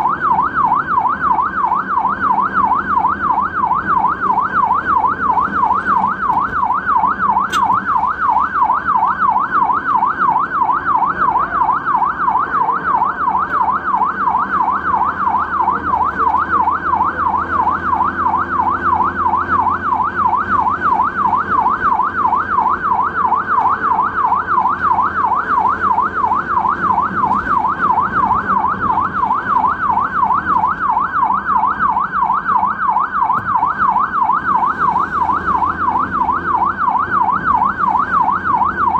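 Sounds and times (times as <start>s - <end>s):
ambulance siren warbling: 0.0s - 38.9s
low engine and road rumble: 0.0s - 38.9s.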